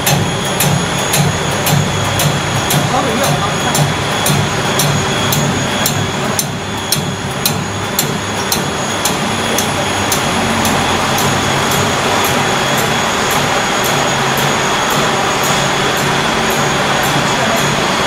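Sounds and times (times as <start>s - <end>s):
machine high whine: 0.0s - 18.0s
machine low hum: 0.0s - 18.0s.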